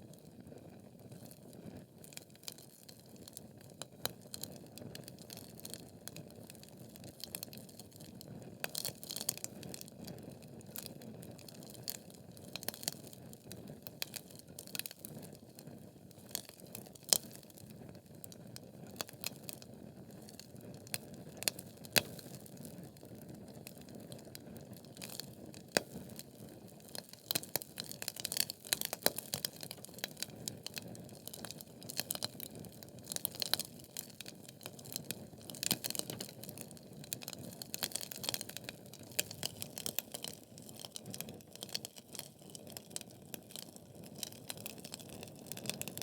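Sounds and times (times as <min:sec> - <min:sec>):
wood fire crackling and popping: 0:01.0 - 0:46.0.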